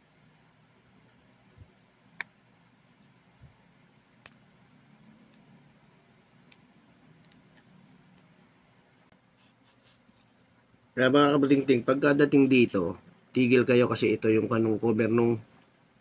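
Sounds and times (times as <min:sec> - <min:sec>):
faint high whine: 0:00.0 - 0:16.0
low steady hum: 0:00.0 - 0:16.0.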